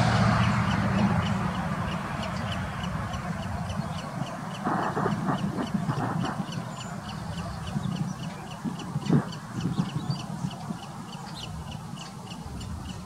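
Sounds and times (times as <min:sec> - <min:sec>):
harsh caw-like bird calls: 0:00.0 - 0:13.0
high repeated tick: 0:00.0 - 0:13.0
steady low rumble: 0:00.0 - 0:13.0.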